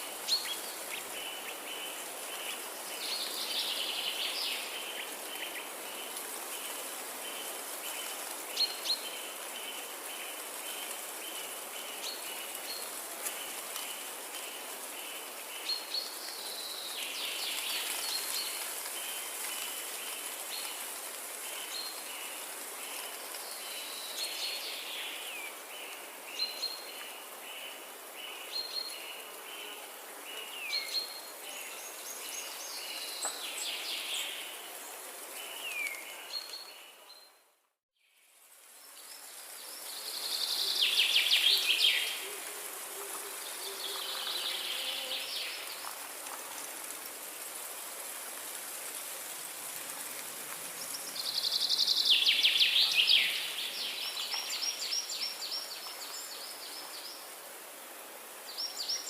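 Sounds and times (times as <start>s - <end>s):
steady hiss: 0.0s - 36.9s, 38.1s - 59.0s.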